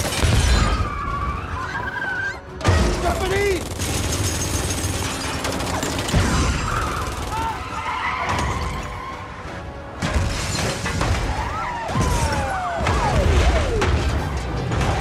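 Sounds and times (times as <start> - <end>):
action film music: 0.0 - 15.0.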